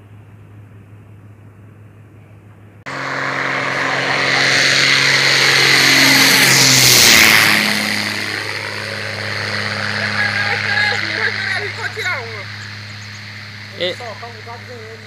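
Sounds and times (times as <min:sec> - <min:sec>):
propeller plane passing overhead: 0:00.0 - 0:15.0.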